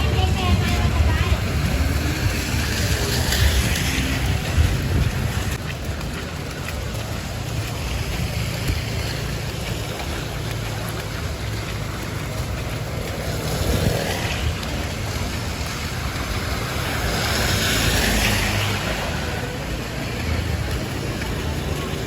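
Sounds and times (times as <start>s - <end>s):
water rushing and splashing: 0.0s - 22.0s
wind buffeting microphone: 0.0s - 22.0s.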